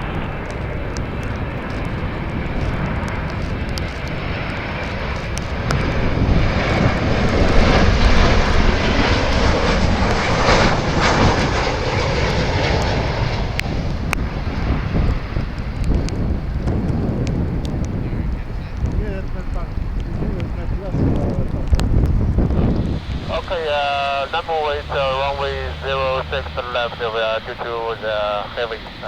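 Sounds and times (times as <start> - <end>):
jet airliner engines roaring: 0.0 - 29.0.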